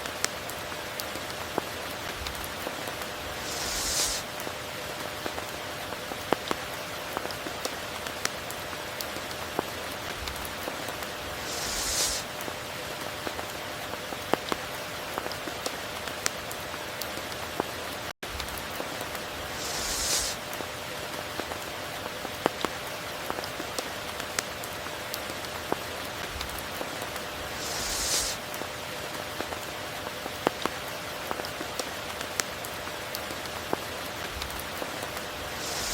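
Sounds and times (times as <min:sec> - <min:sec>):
rain falling: 0:00.0 - 0:35.9
raindrops ticking on surfaces: 0:00.0 - 0:35.9.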